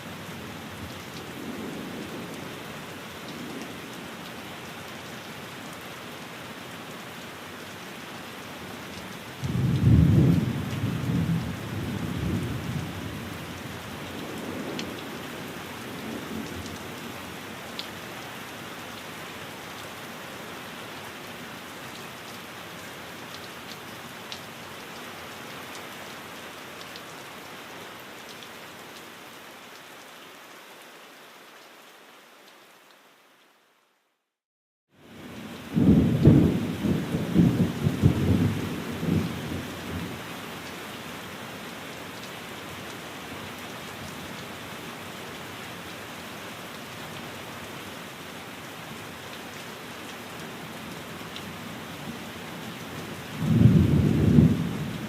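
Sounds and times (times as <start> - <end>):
rain on a window: 0.0 - 34.2, 35.0 - 55.0.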